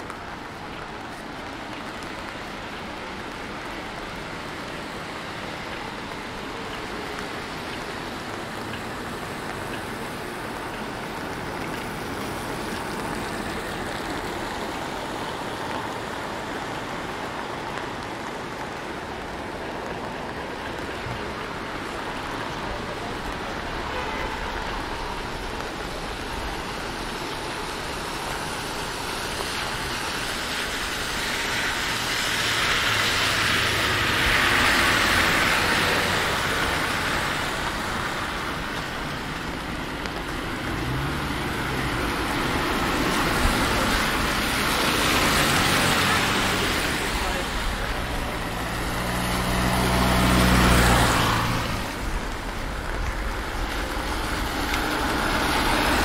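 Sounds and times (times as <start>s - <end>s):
rain falling on street: 0.0s - 56.0s
tyres hissing on wet road: 0.0s - 56.0s.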